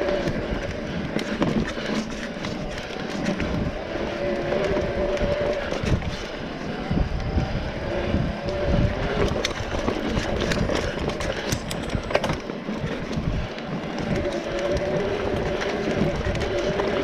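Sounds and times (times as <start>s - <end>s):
bike clattering and rattling: 0.0s - 7.6s, 8.4s - 17.0s
bike tyres on dirt and rocks: 0.0s - 17.0s
wind on microphone: 0.0s - 17.0s.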